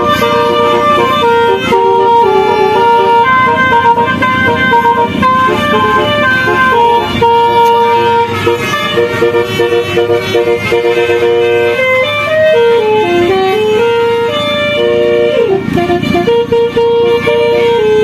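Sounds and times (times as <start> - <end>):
multi-tone musical vehicle horn: 0.0 - 18.0.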